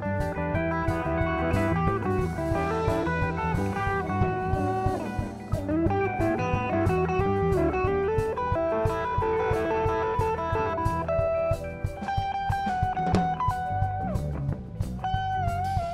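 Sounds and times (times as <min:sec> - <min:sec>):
bass guitar: 0:00.0 - 0:15.9
drum kit: 0:00.0 - 0:15.9
electric guitars: 0:00.0 - 0:15.9.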